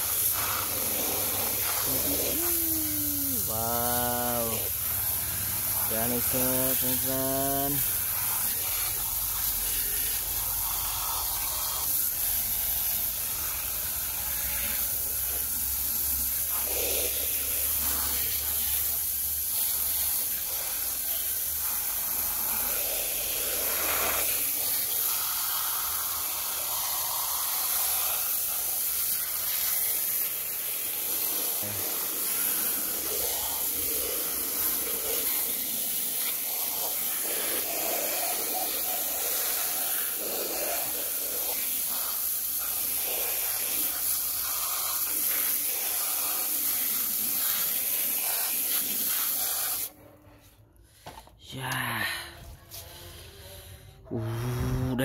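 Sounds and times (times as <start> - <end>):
water spray hissing on plastic: 0.0 - 49.9.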